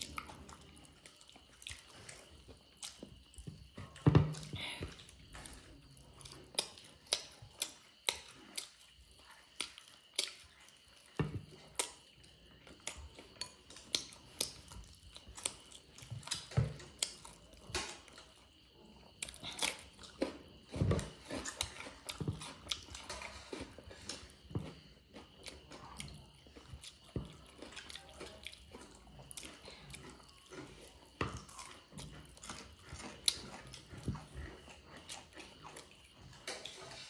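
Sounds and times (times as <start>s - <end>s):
chewing and crunching: 0.0s - 37.0s.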